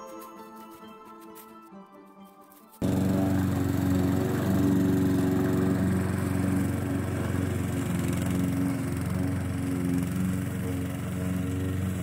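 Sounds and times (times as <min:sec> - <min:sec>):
small engine running: 0:02.3 - 0:12.0.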